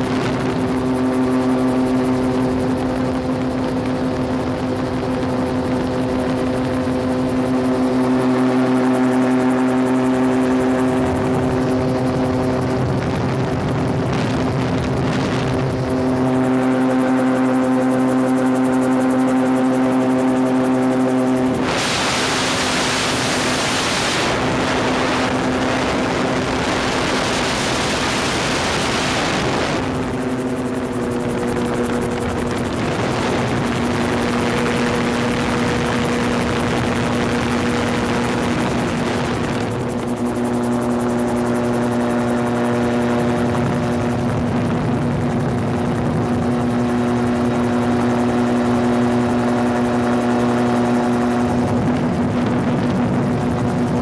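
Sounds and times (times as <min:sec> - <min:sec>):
engine drone: 0:00.0 - 0:54.0
wind rushing over microphone: 0:00.0 - 0:54.0.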